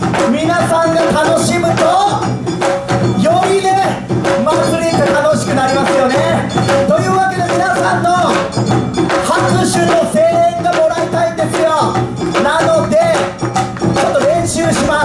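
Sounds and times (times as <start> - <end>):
dance music with bending melody: 0.0 - 15.0
steady percussion: 0.0 - 15.0.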